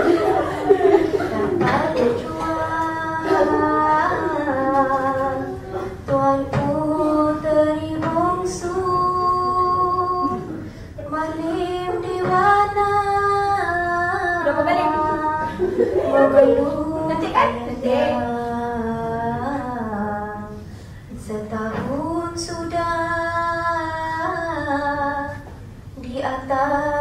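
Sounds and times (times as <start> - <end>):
woman singing slow melody: 1.1 - 27.0.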